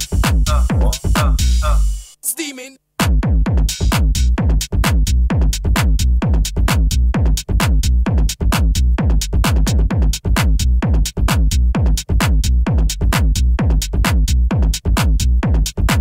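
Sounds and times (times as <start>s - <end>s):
heavy sub-bass: 0.0s - 2.0s, 3.0s - 16.0s
fast electronic drum pattern: 0.0s - 2.1s, 3.0s - 16.0s.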